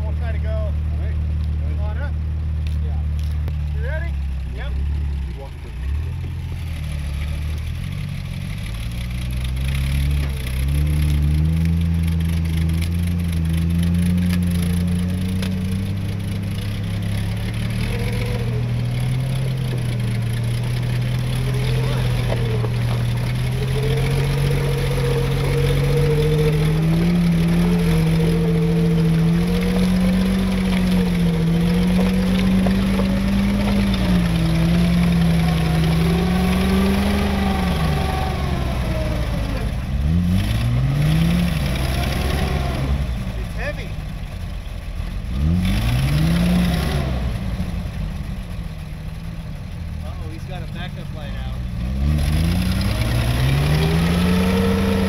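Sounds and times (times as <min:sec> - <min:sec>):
vehicle engine pulling under load: 0:00.0 - 0:55.0.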